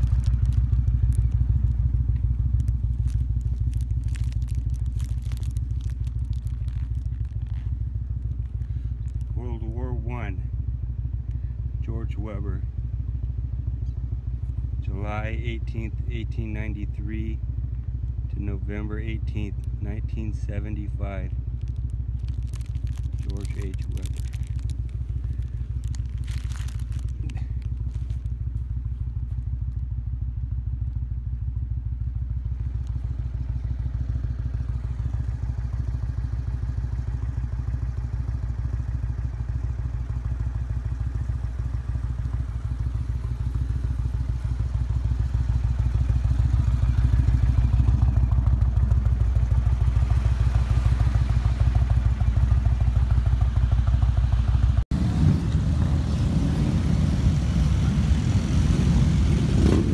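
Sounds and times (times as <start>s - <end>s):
motorcycle engines rumbling: 0.0s - 59.9s.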